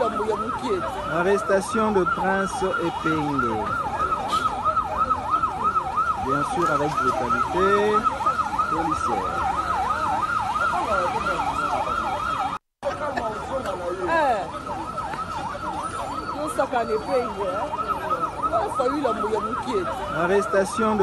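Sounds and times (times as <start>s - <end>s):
siren yelping: 0.0s - 12.6s, 13.4s - 21.0s.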